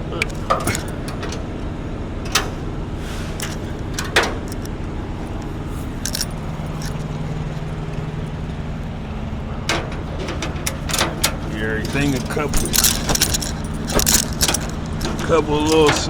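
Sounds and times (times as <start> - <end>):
vehicle engine idling: 0.0 - 16.0
metal strap hardware clinking: 0.1 - 8.5, 9.5 - 16.0.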